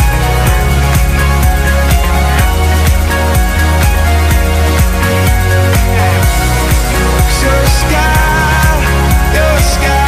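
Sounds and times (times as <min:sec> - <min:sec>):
electronic dance-pop music: 0:00.0 - 0:10.0.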